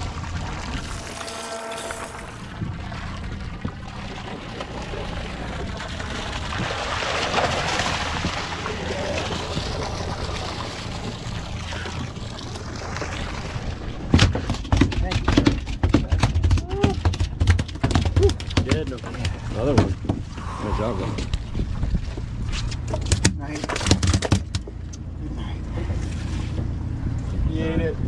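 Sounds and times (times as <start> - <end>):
fish splashing and thrashing: 0.0 - 20.5, 21.1 - 25.1
boat hum: 0.0 - 28.0.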